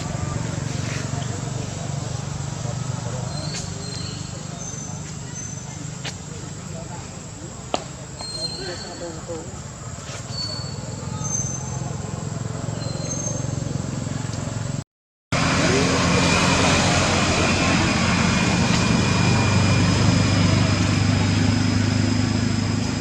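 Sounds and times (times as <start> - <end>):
motor vehicle idling hum: 0.0 - 14.8, 15.4 - 23.0
outdoor background noise: 0.0 - 23.0.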